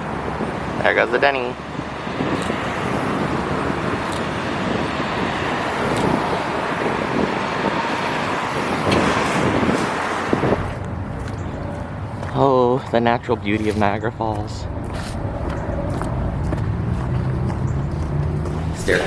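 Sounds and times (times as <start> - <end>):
vehicles driving past: 0.0 - 19.0.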